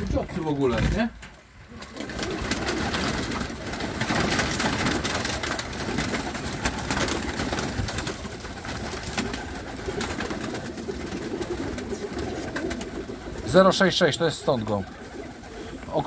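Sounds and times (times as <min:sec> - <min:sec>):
birds clicking and rustling: 0:00.0 - 0:16.0
pigeons cooing: 0:01.6 - 0:16.0.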